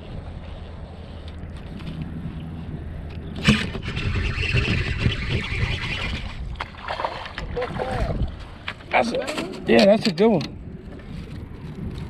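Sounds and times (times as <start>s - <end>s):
wind rumbling on microphone: 0.0s - 9.8s, 10.4s - 12.0s.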